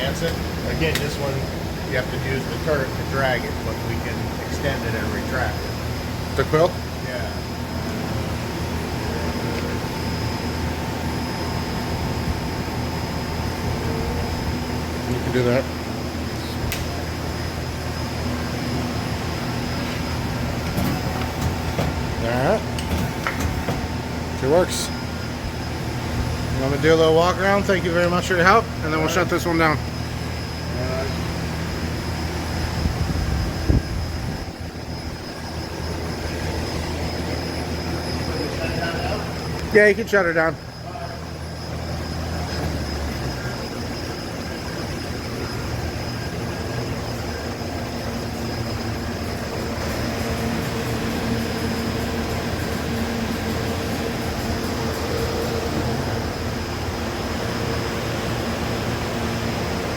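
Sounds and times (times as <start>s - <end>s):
lathe machine hum: 0.0s - 59.9s
thin constant whine: 0.0s - 59.9s.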